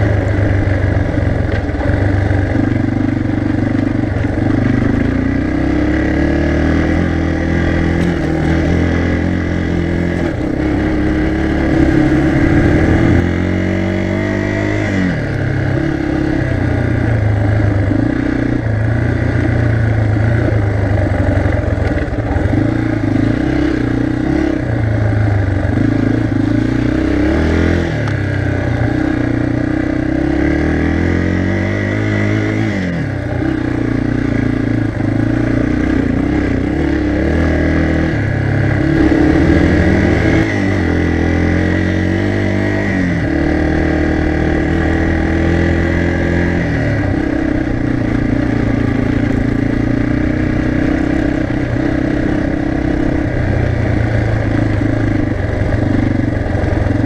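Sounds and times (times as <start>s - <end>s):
dirt bike engine: 0.0s - 57.0s.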